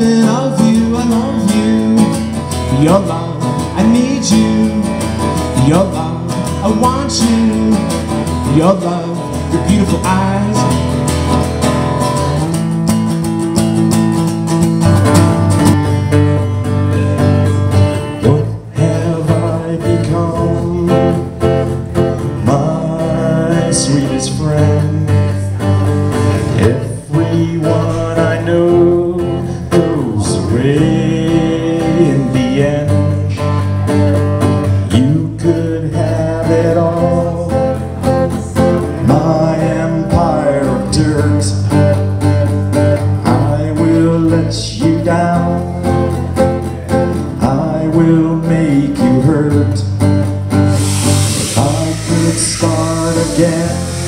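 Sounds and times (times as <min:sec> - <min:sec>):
person singing: 0:00.0 - 0:13.1, 0:17.9 - 0:54.0
acoustic guitar: 0:00.0 - 0:54.0.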